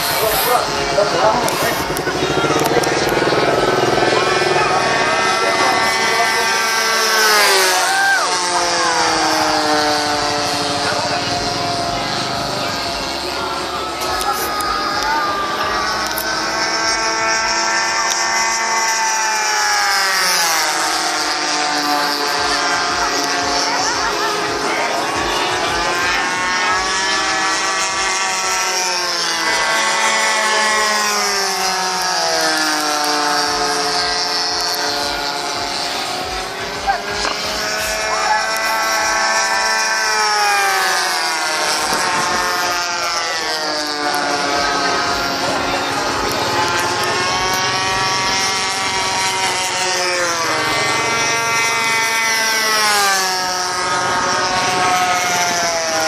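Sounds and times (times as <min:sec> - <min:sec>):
model airplane engines droning: 0:00.0 - 0:56.0.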